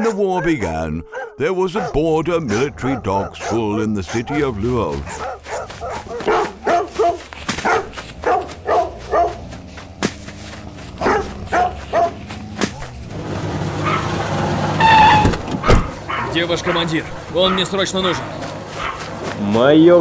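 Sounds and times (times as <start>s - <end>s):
dogs barking: 0.0s - 19.6s
steady engine rumble: 2.5s - 20.0s.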